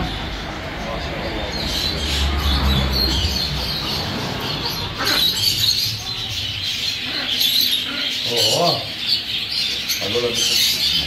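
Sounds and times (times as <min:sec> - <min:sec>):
caged birds chirping: 0:00.0 - 0:11.0.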